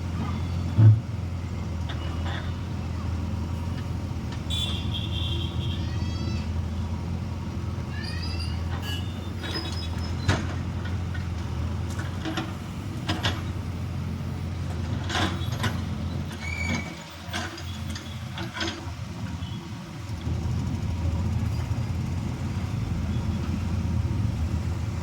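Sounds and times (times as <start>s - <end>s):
backhoe diesel engine running: 0.0s - 25.0s.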